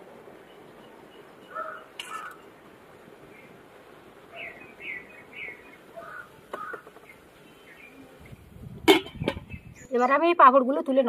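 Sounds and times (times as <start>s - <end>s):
birds chirping: 0.0s - 10.6s.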